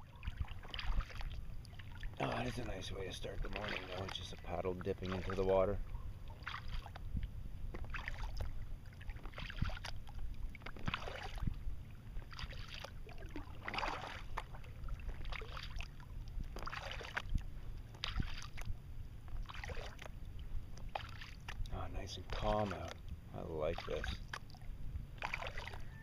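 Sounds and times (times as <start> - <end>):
low steady rumble: 0.0 - 26.0
paddle splashing in water: 0.0 - 26.0.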